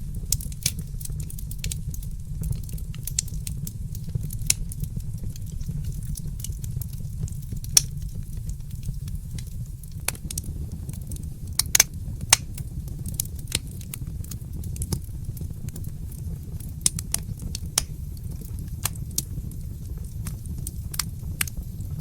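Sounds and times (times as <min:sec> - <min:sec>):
steady low rumble: 0:00.0 - 0:22.0
wood fire crackling: 0:00.0 - 0:22.0.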